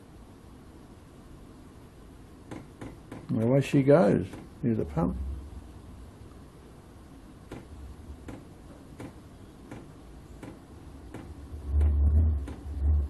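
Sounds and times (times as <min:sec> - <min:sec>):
heater rumble: 0:00.0 - 0:13.0.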